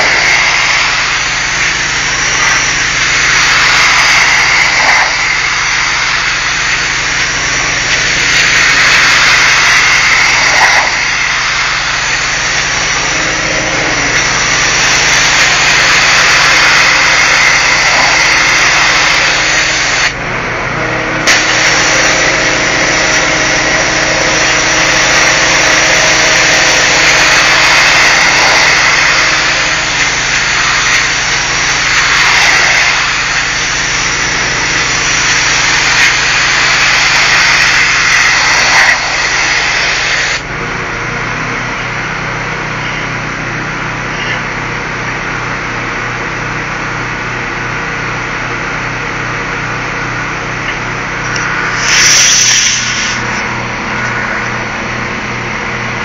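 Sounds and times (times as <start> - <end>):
pressure washer spraying brick: 0.0 - 20.2, 21.2 - 40.6, 49.6 - 56.0
machine hum: 0.0 - 56.0.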